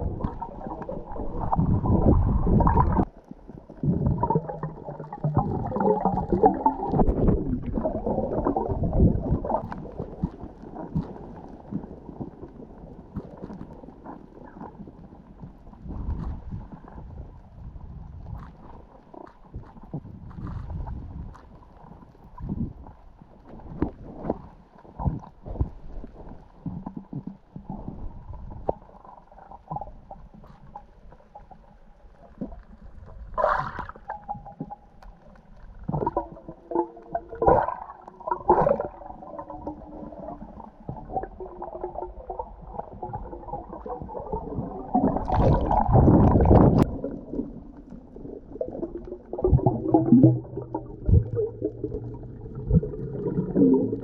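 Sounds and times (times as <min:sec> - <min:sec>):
underwater gurgling: 0:00.0 - 0:54.0.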